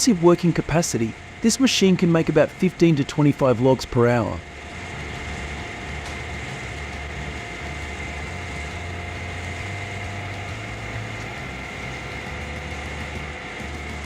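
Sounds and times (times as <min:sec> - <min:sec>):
diesel engine rumbling: 0:00.0 - 0:14.0
high whine: 0:00.0 - 0:14.0.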